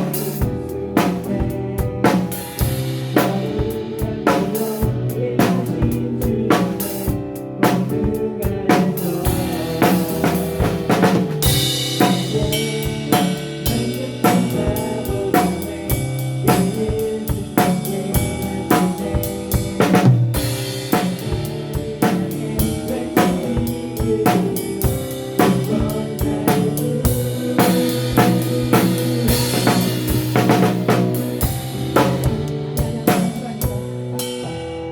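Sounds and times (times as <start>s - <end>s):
band playing instrumental: 0.0s - 34.6s
drum kit groove: 0.0s - 34.6s.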